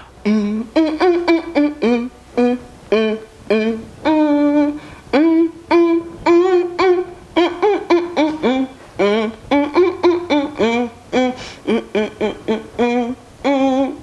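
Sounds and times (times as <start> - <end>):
woman singing without words: 0.0 - 14.0.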